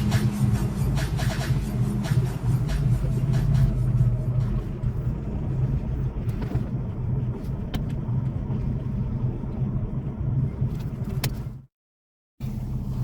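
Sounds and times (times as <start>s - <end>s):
diesel truck engine humming: 0.0s - 11.6s.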